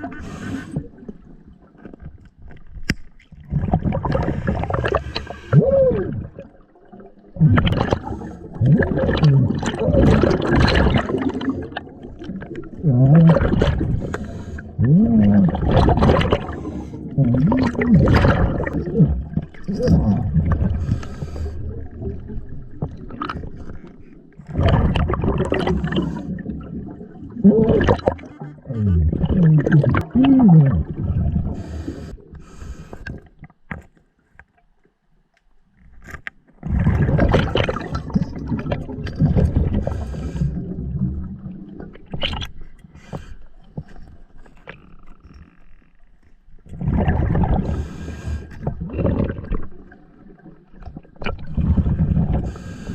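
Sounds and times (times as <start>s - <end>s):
underwater bubbling from exhaled breath: 0.0s - 1.8s, 3.3s - 33.5s, 36.6s - 45.2s, 46.6s - 52.9s.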